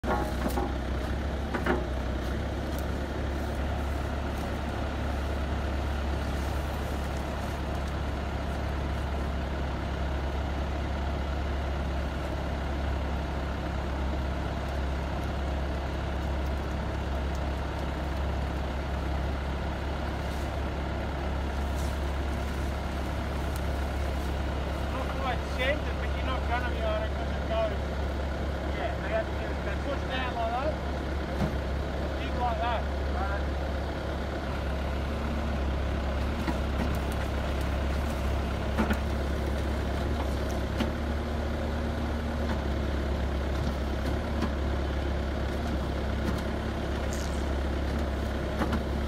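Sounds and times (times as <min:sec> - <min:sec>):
loader engine droning: 0:00.0 - 0:49.0.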